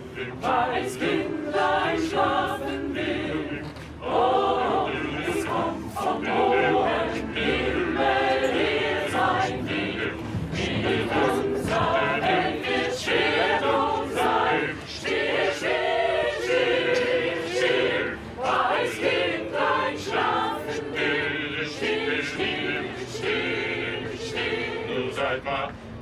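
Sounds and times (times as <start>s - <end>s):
vocal ensemble singing a cappella: 0.0s - 26.0s.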